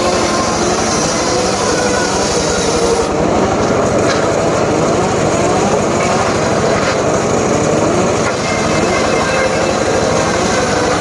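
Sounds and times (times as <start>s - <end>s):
circular saw engine running: 0.0s - 11.0s.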